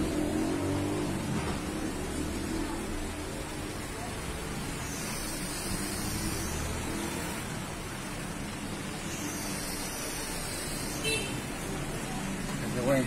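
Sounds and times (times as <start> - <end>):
constant hiss: 0.0 - 13.0.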